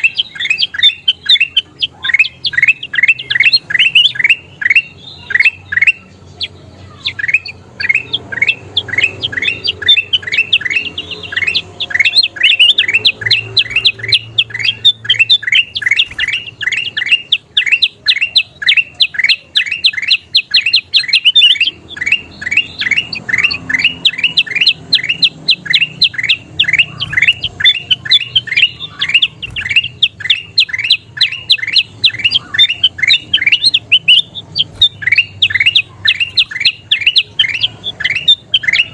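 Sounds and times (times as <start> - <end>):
bulbul chirping: 0.0 - 38.9.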